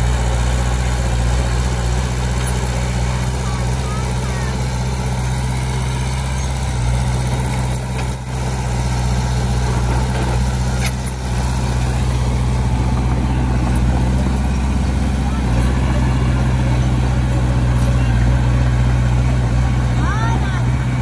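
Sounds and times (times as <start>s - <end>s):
heavy diesel engine droning: 0.0s - 21.0s.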